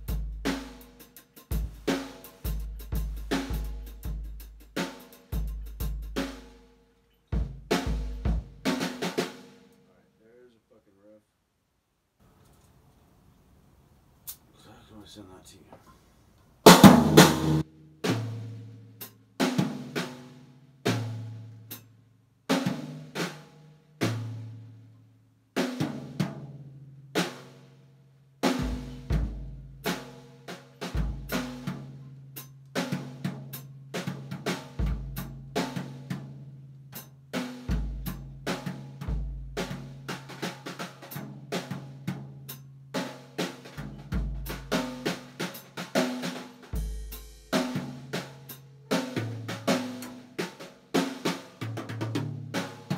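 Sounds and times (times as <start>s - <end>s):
drum kit playing: 0.0s - 6.6s, 7.3s - 9.6s, 16.6s - 21.9s, 22.5s - 24.6s, 25.6s - 27.6s, 28.4s - 52.9s.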